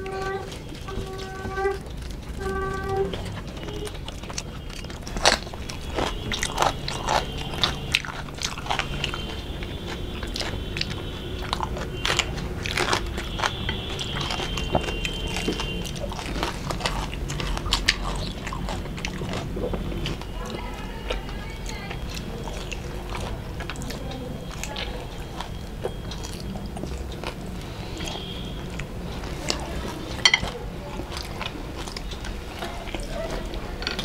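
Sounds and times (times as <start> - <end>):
chewing and crunching food: 0.0 - 34.0.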